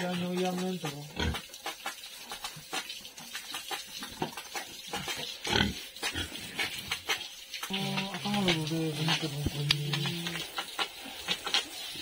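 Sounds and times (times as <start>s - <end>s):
pigs grunting: 0.0s - 1.6s, 3.6s - 12.0s.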